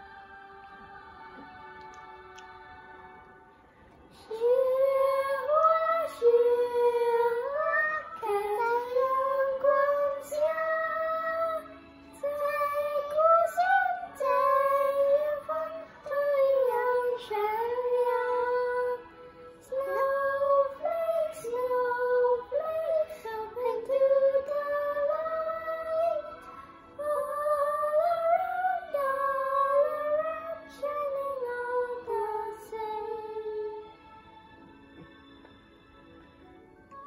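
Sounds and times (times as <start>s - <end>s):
boys singing slow melody: 4.2s - 33.9s.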